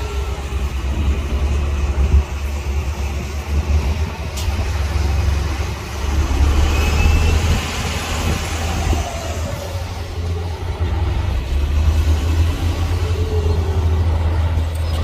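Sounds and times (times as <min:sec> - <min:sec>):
bulldozer diesel engine rumbling: 0:00.0 - 0:15.0.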